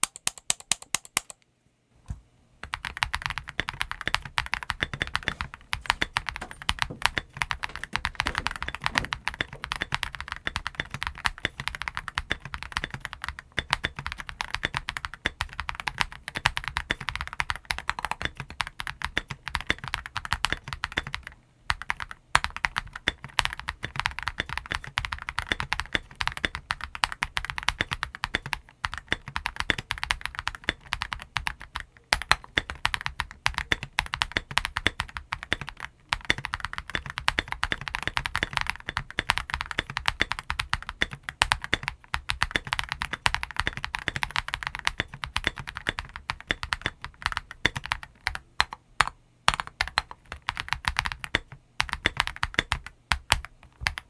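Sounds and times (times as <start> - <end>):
mechanical keyboard typing: 0.0 - 1.4, 2.6 - 54.0.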